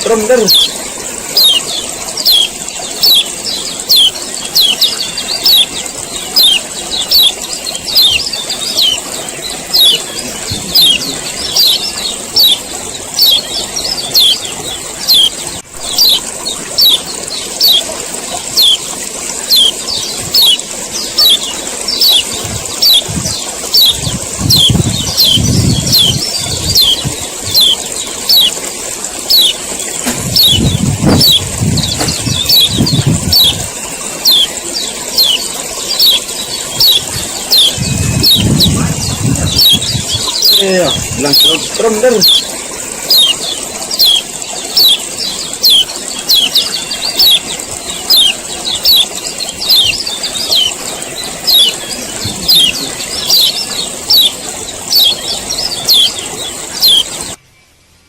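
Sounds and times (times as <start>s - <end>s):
bird repeating high chips: 0.0s - 57.4s
steady high hiss: 0.0s - 58.0s.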